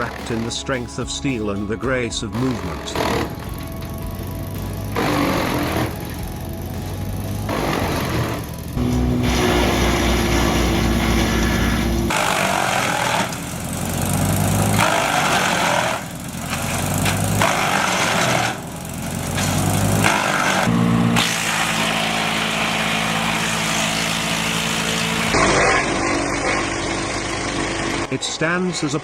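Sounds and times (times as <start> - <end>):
wood chipper engine running: 2.2 - 28.2.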